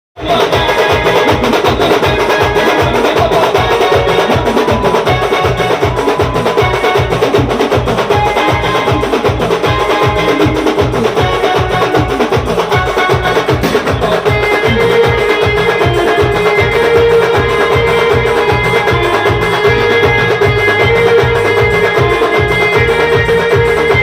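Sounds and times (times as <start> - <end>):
band music: 0.2 - 24.0
fast loud drumbeat: 0.2 - 24.0.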